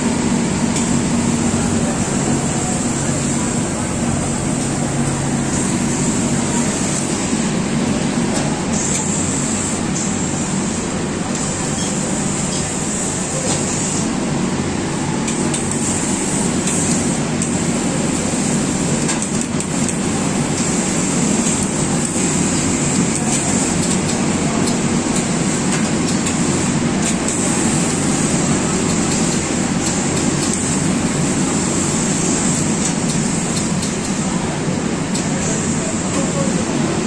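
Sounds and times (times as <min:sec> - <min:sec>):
workshop machinery din: 0:00.0 - 0:37.0.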